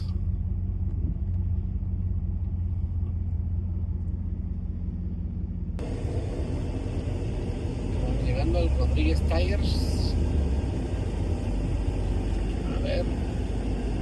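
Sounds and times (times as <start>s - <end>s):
pickup truck rumbling: 0.0s - 14.0s.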